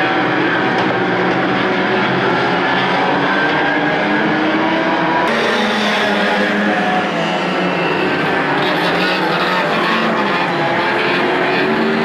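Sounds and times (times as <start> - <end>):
racing car engines running hard: 0.0 - 12.0.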